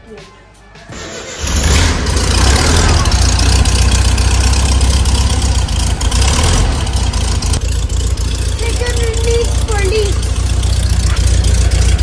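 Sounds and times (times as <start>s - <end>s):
car engine idling: 0.9s - 12.0s.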